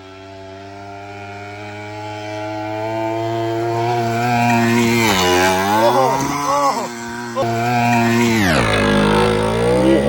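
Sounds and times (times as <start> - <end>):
mini bike engine running: 0.0 - 10.0.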